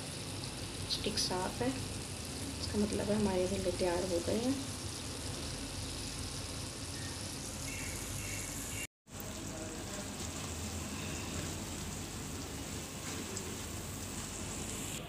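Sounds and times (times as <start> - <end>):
fritters sizzling in oil: 0.0 - 15.0.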